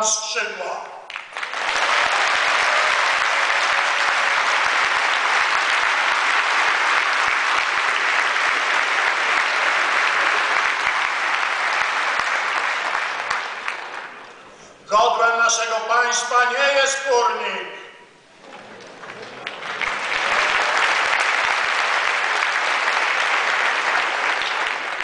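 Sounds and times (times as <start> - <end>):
large audience applauding: 1.1 - 14.6, 18.4 - 25.0.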